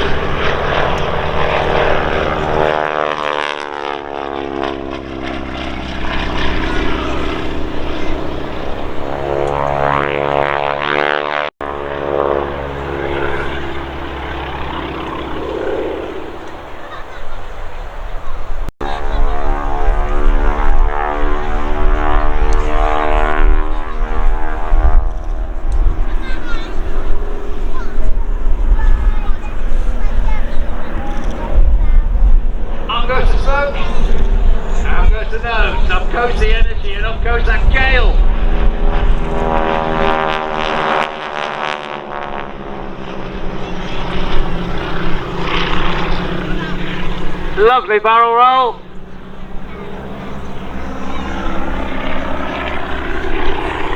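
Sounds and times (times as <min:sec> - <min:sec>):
biplane engine drone: 0:00.0 - 0:53.9
propeller plane flying past: 0:00.0 - 0:53.9.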